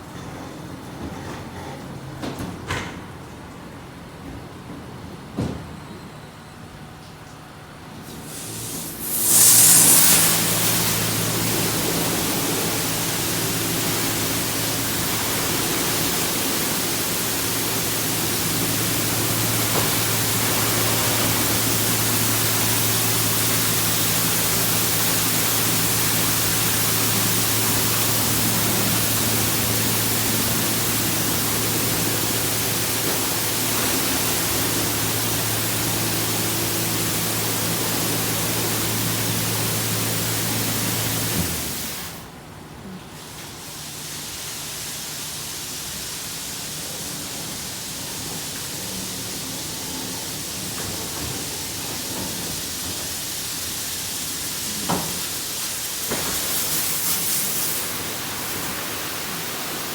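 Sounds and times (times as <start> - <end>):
car wash water spray hissing: 8.1 - 42.4, 43.2 - 59.9
pump motor hum: 8.2 - 42.4, 43.8 - 59.9.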